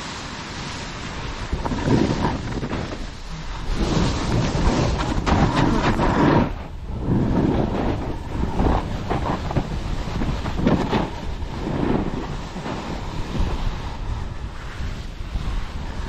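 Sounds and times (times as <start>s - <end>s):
board carving through snow: 0.0s - 16.0s
wind on camera microphone: 0.0s - 16.0s.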